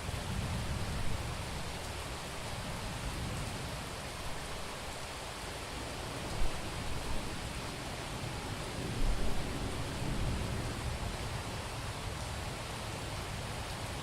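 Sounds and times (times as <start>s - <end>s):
heavy rain on street: 0.0s - 14.0s.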